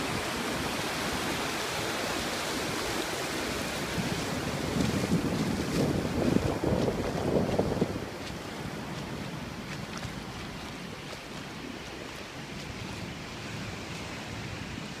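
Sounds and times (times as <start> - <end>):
surf breaking on beach: 0.0 - 14.9
wind buffeting microphone: 0.0 - 15.0.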